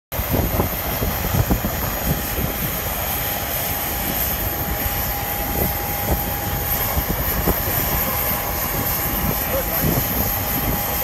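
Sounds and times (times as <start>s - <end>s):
jet aircraft noise: 0.1s - 11.0s.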